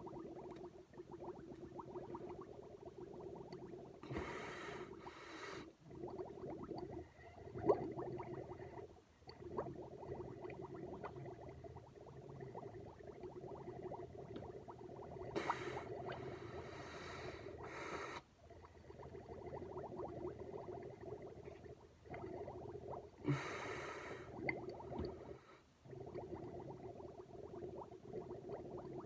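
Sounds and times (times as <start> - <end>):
air gurgling through straw in milk: 0.0 - 29.0.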